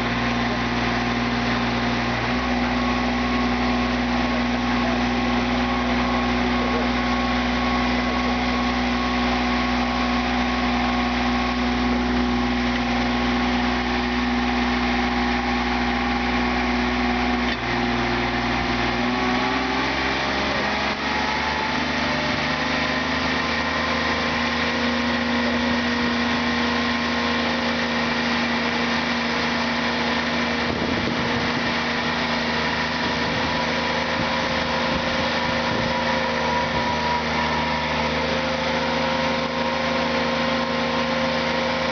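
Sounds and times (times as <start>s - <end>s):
loader engine running: 0.0s - 41.9s.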